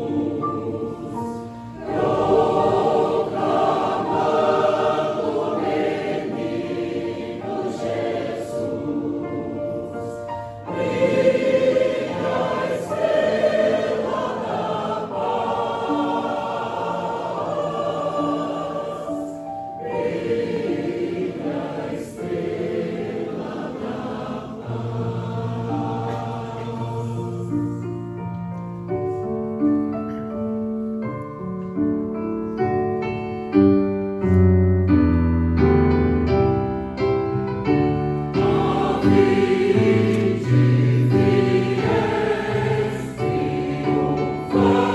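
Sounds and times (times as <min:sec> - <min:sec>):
church choir singing carols: 0:00.0 - 0:30.9, 0:35.9 - 0:44.9.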